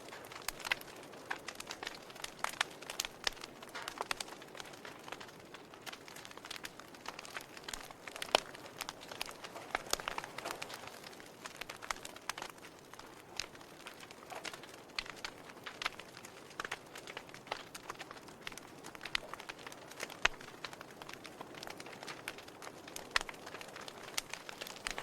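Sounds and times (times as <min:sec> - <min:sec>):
soft steady hiss: 0:00.0 - 0:25.0
wood fire crackling: 0:00.0 - 0:25.0.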